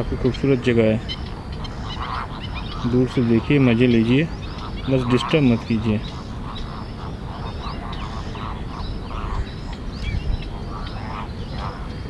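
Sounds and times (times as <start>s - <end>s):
harsh bird calls: 0.0s - 12.0s
low steady rumble: 0.0s - 12.0s
small birds chirping: 0.0s - 12.0s.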